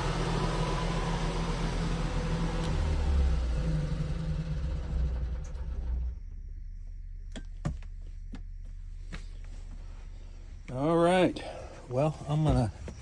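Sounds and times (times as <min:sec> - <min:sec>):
generator humming: 0:00.0 - 0:13.0.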